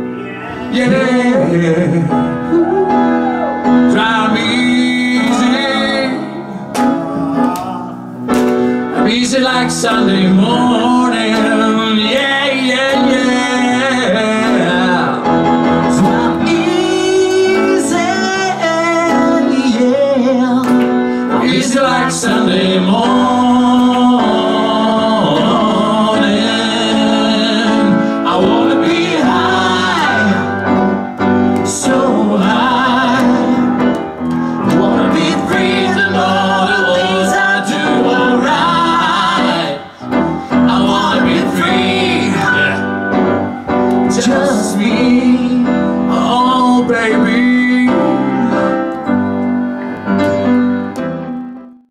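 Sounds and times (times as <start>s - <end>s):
men singing: 0.0s - 49.0s
grand piano chords: 0.0s - 51.9s.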